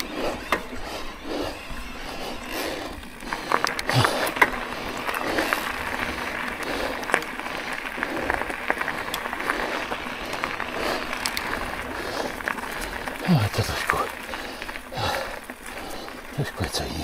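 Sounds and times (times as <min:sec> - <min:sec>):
bike clicking and rattling: 0:00.0 - 0:17.0
tyres rushing on loose ground: 0:00.0 - 0:17.0.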